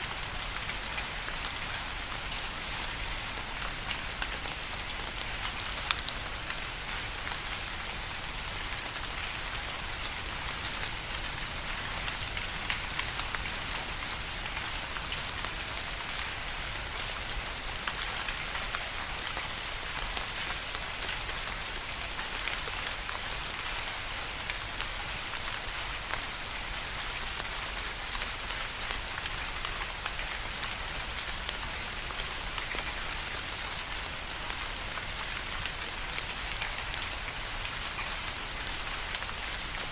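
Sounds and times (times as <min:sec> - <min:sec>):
steady rain falling: 0:00.0 - 0:39.9
raindrops pattering on a surface: 0:00.1 - 0:39.9.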